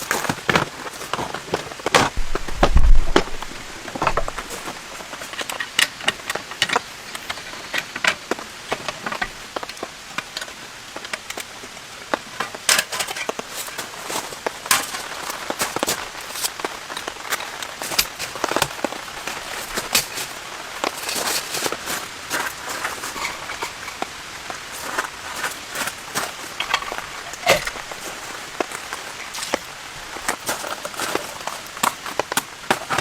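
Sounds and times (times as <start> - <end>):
raindrops tapping on a hard surface: 0.0 - 33.0
steady rain: 0.0 - 33.0.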